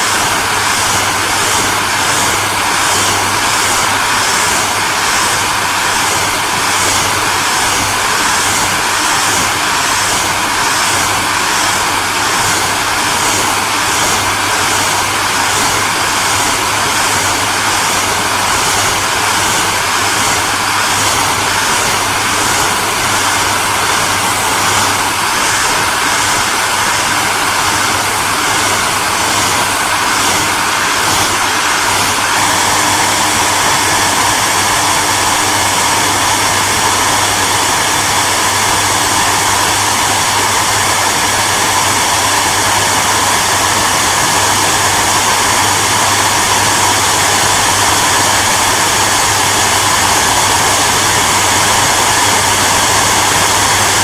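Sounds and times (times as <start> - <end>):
hairdryer running: 0.0 - 54.0.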